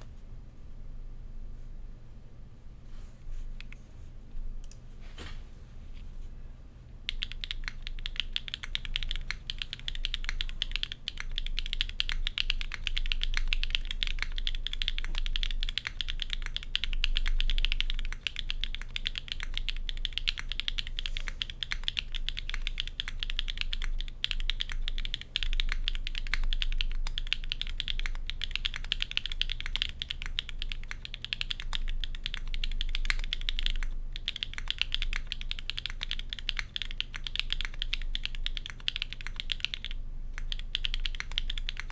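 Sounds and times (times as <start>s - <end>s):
fast typing on mechanical keyboard: 7.1s - 41.9s.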